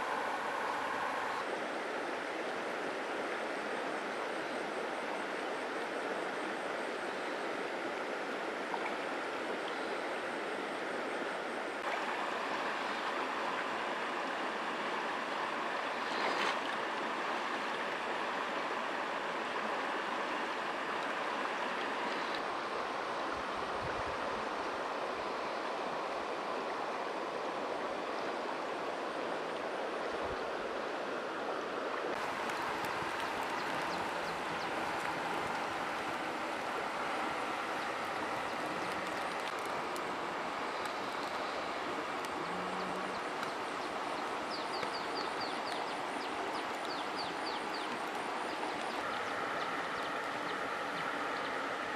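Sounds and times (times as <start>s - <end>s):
river water rushing over rocks: 0.0s - 3.9s, 10.4s - 51.9s.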